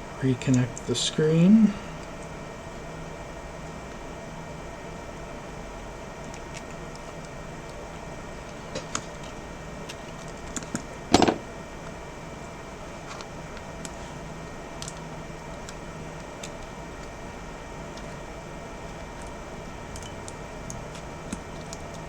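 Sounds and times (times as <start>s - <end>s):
room hum: 0.0s - 22.0s.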